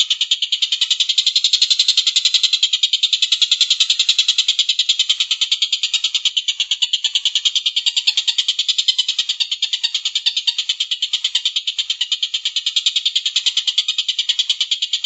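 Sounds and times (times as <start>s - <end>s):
bird chattering trill: 0.0s - 15.0s.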